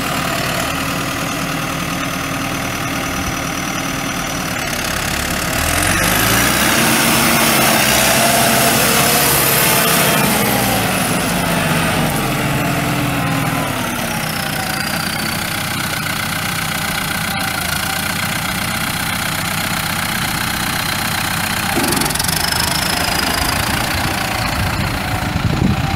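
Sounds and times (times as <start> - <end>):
diesel tractor engine running: 0.0 - 25.9.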